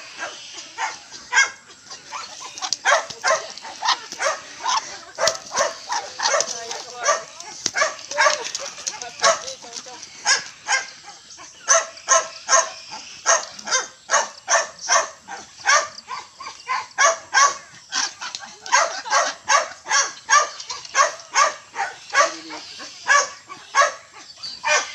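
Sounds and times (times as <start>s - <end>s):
small dog barking rapidly: 0.2s - 9.6s, 11.7s - 17.6s, 18.7s - 24.0s, 24.6s - 24.9s.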